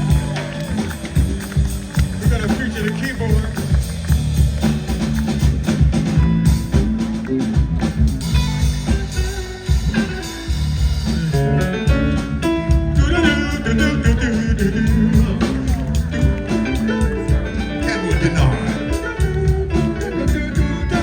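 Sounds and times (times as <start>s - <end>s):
drum kit: 0.0s - 21.0s
electric guitar melodic lines: 0.0s - 21.0s
heavy bass line: 0.0s - 21.0s.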